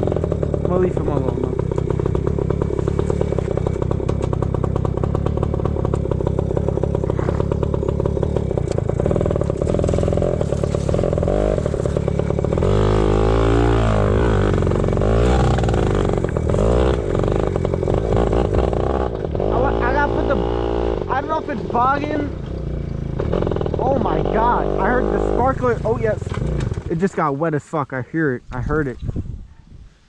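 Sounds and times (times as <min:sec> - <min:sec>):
small motorbike engine revving: 0:00.0 - 0:27.0.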